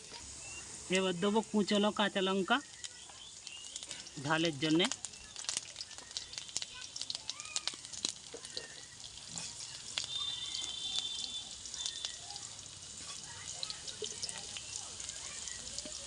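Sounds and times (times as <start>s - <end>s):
chillies sizzling in hot oil: 0.0s - 16.0s.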